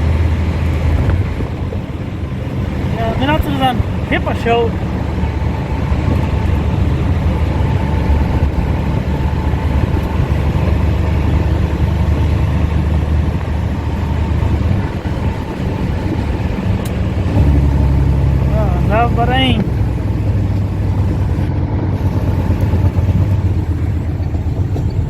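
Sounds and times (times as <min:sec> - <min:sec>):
dump truck engine running: 0:00.0 - 0:25.0.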